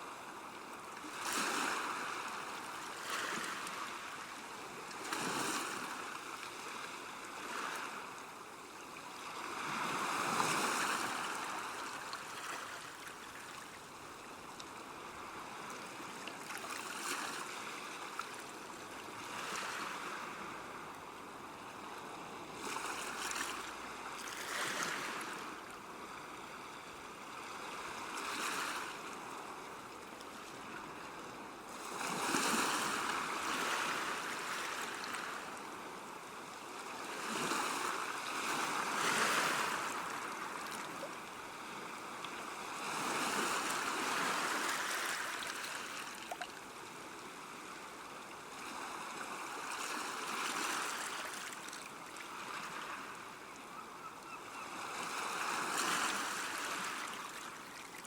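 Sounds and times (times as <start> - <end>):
small waves washing against shore: 0.0 - 29.6, 30.4 - 58.0.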